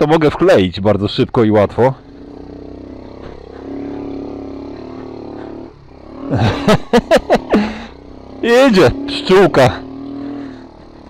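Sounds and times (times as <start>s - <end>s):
motorcycle engine running: 1.0s - 11.0s.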